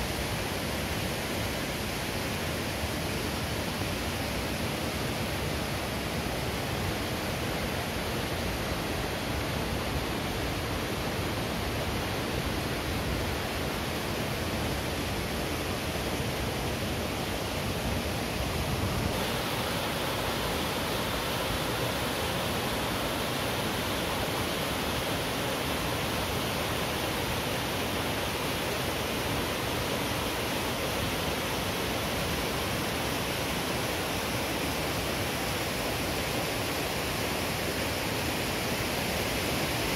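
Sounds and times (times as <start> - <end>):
waterfall rushing: 1.6 - 39.9.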